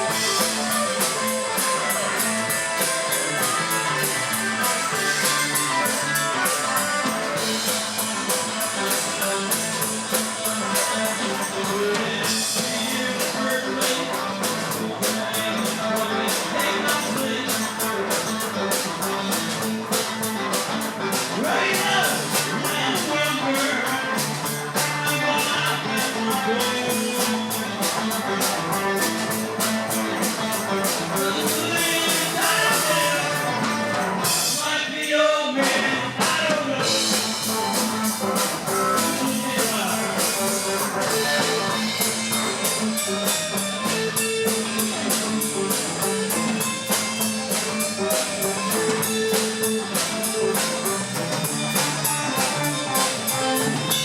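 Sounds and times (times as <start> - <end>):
drums with steady beat: 0.0 - 54.0
electric guitar: 0.0 - 54.0.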